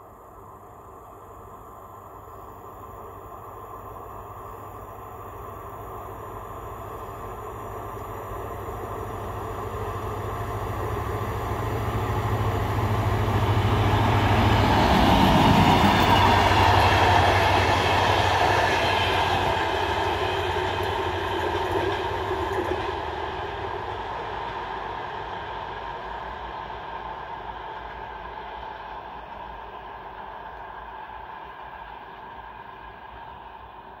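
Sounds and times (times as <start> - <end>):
diesel train hum: 0.0 - 34.0
train wheel and rail noise: 0.0 - 34.0.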